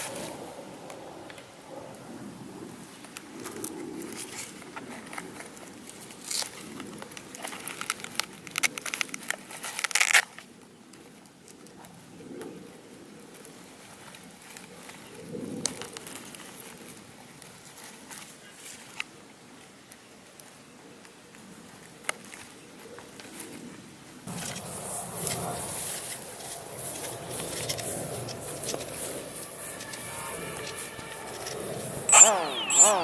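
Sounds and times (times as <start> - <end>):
crinkling craft materials: 3.4 - 12.0, 13.0 - 33.0.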